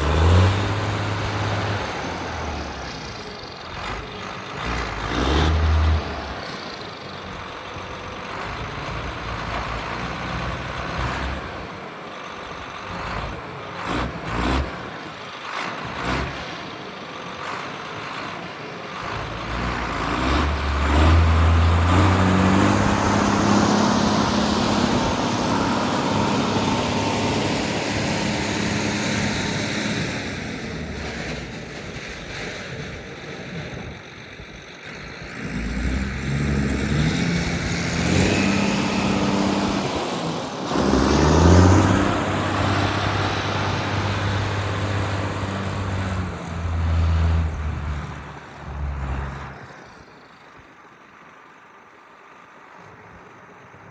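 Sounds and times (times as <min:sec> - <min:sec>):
tractor diesel engine running: 0:00.0 - 0:53.8.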